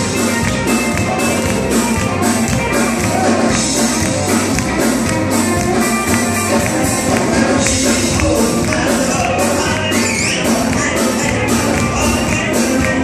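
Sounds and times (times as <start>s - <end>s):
upbeat gospel band music: 0.0s - 13.0s.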